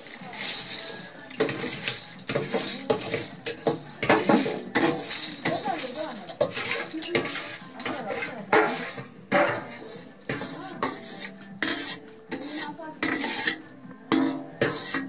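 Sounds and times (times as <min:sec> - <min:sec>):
boiling water: 0:00.0 - 0:15.0
metal spoon scraping bowl: 0:00.0 - 0:15.0.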